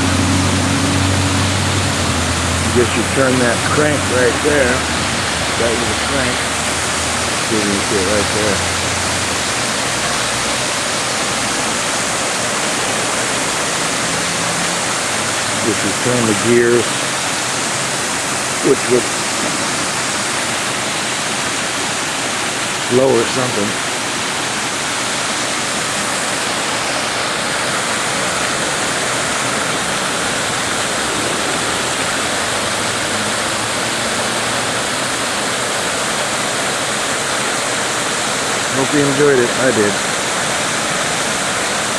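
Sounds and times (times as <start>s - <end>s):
water rushing over a stone dam: 0.0s - 41.9s.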